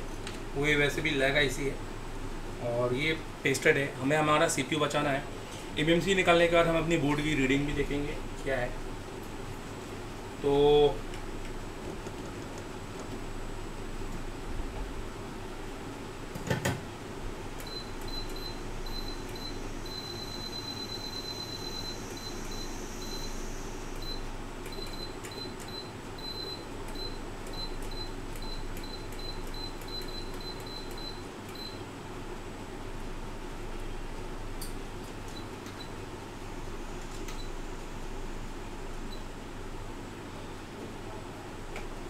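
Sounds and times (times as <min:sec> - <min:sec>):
fan-like hum: 0:00.0 - 0:42.0.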